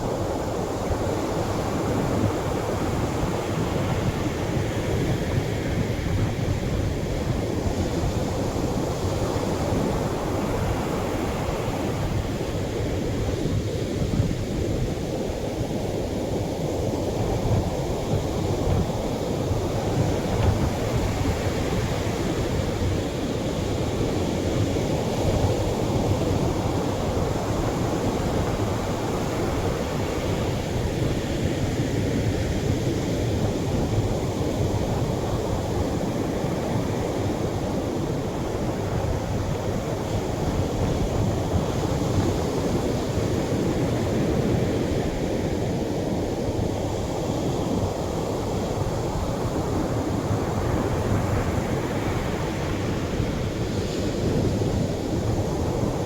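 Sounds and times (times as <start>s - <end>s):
waves washing onto a beach: 0.0s - 56.0s.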